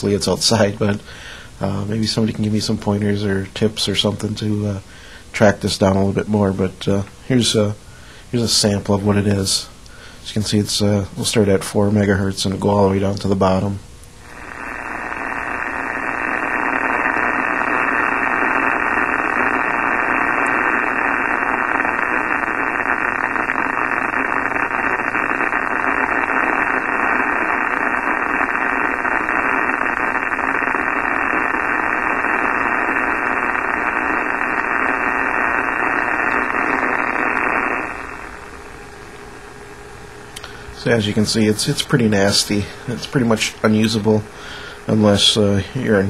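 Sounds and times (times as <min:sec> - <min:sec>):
radio static hiss: 0:00.0 - 0:46.0.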